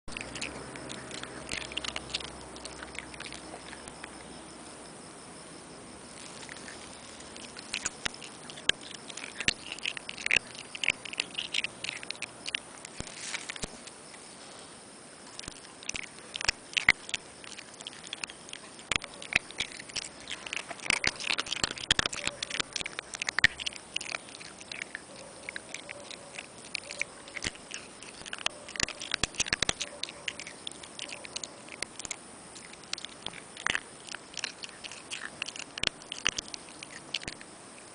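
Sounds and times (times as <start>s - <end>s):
dog chewing a rock: 0.0s - 4.5s, 6.0s - 14.0s, 15.3s - 37.9s.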